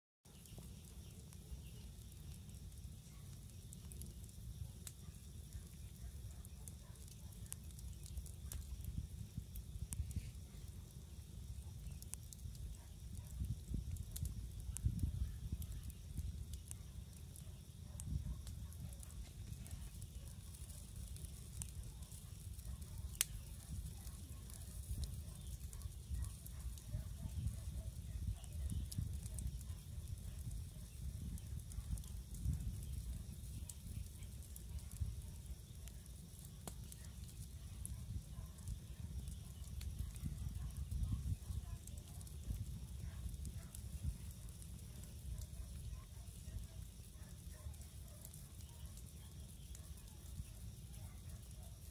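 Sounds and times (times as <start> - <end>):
campfire crackling and popping: 0.3 - 51.9
low fire rumble: 0.3 - 51.9.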